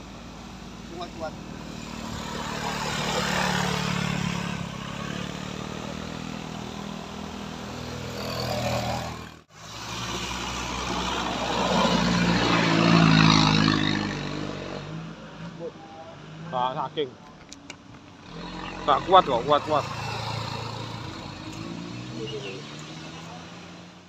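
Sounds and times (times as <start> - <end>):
vehicle engine labouring and revving: 0.0 - 24.0.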